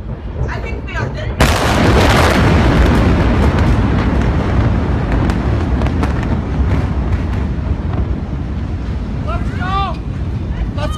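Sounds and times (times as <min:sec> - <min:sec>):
explosion rumble: 0:00.0 - 0:10.9.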